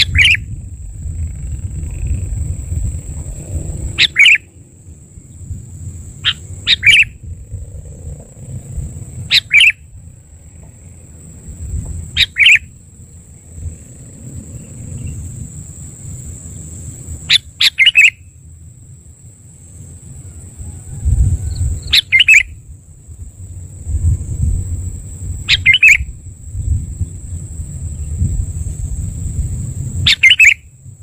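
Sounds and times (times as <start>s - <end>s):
low rumble: 0.0s - 17.3s, 18.5s - 30.1s.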